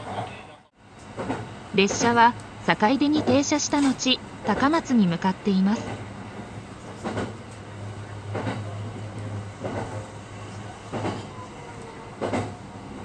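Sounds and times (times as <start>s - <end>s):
train low hum: 0.0s - 13.0s
rail joints clacking: 1.0s - 13.0s.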